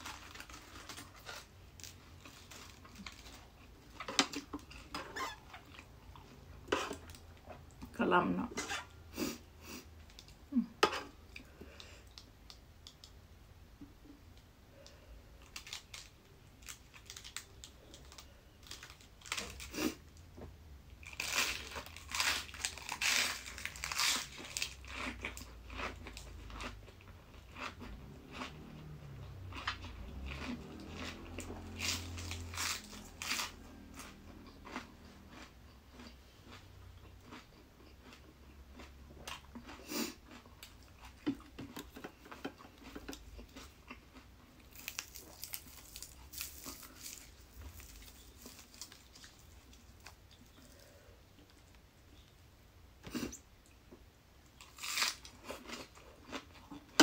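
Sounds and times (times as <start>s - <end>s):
crunching and chewing food: 0.0s - 8.0s, 14.7s - 57.0s.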